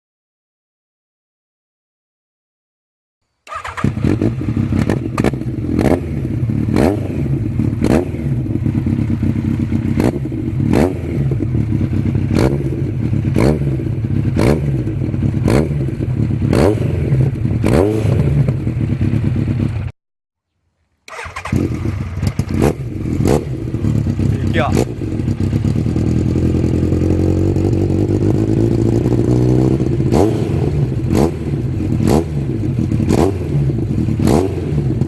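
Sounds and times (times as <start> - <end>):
motorcycle engine running: 3.6 - 19.9, 21.1 - 35.0.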